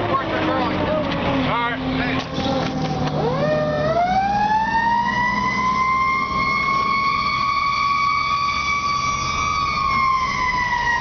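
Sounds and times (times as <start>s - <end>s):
fire engine siren wailing: 0.0s - 11.0s
truck engine rumble: 0.0s - 11.0s.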